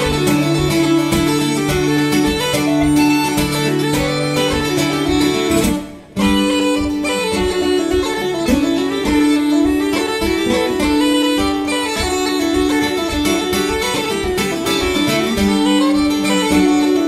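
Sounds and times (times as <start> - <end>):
acoustic guitar: 0.0 - 17.0
bagpipes playing folk tune: 0.0 - 17.0.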